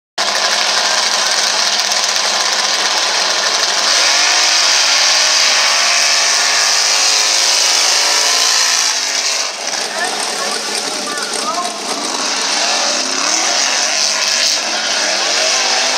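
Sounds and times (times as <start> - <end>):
truck engines revving at full throttle: 0.2 - 15.9.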